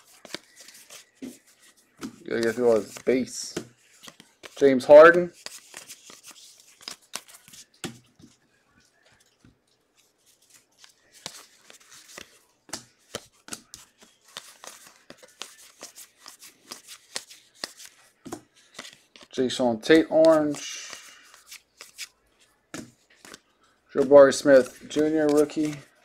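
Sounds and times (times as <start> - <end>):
trading cards flipped through: 0.0 - 8.0, 10.3 - 19.3, 20.1 - 23.4, 24.0 - 26.0.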